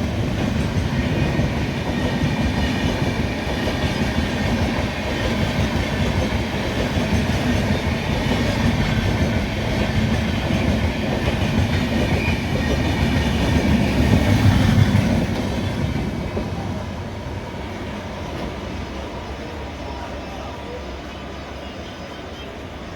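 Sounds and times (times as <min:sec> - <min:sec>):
train wheels clattering over rails: 0:00.0 - 0:19.1.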